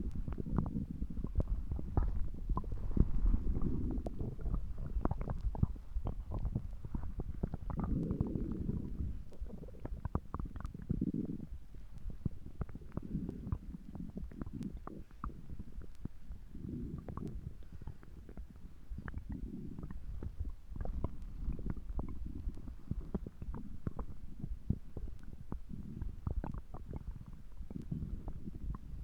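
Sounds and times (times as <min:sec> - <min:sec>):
stomach gurgling: 0:00.0 - 0:29.0.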